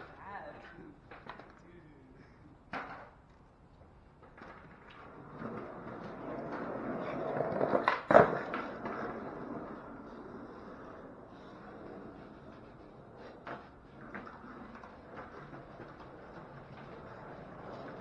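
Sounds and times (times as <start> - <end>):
skateboard clacking on ground: 0.0 - 1.6, 2.6 - 18.0
skateboard wheels rolling: 0.0 - 1.6, 2.6 - 18.0.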